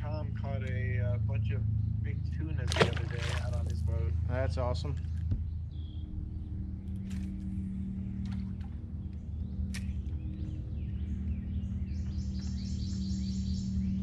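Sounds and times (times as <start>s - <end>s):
birds chirping: 0.0s - 14.0s
low rumble and hum: 0.0s - 14.0s.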